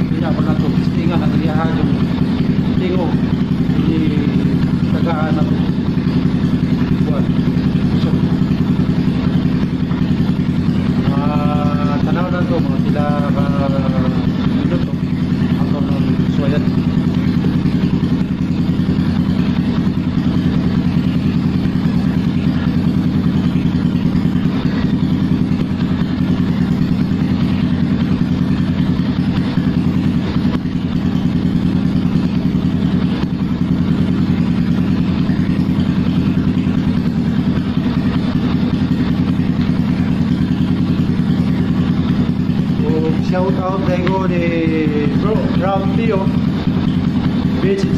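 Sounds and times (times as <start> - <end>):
motorcycle idling: 0.0 - 47.9.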